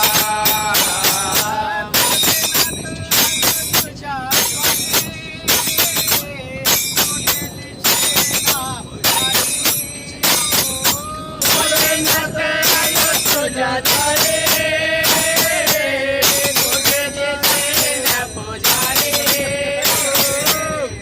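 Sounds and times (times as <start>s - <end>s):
hand percussion with jingling: 0.0s - 21.0s.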